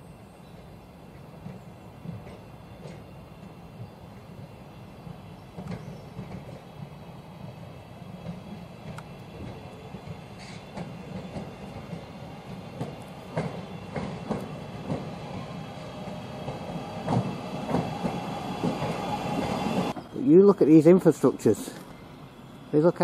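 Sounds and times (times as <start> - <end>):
train rumbling: 0.0 - 23.0
wheels clicking over rail joints: 1.2 - 4.3, 5.0 - 15.2, 16.4 - 22.0.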